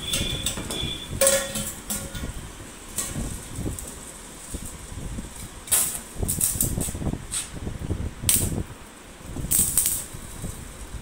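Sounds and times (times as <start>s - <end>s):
arc welder crackling: 0.0s - 11.0s.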